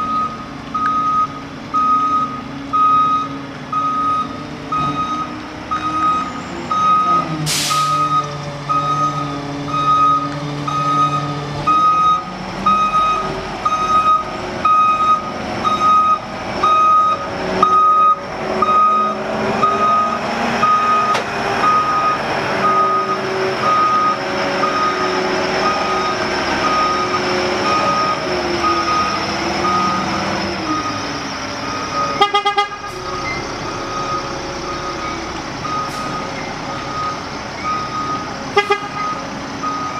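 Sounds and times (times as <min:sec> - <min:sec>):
diesel engine: 0:00.0 - 0:39.9
reversing alarm beeping: 0:00.0 - 0:39.9.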